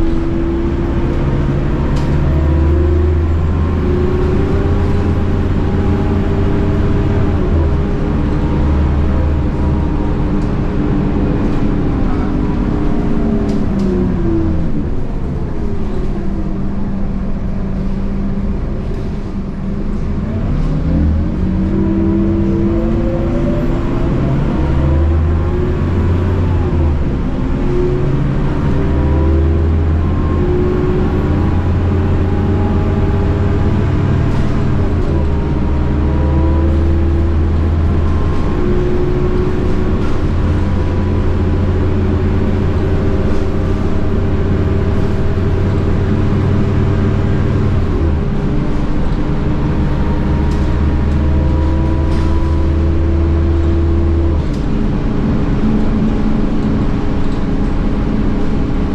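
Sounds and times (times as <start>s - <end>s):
bus diesel engine under load: 0.0s - 58.9s.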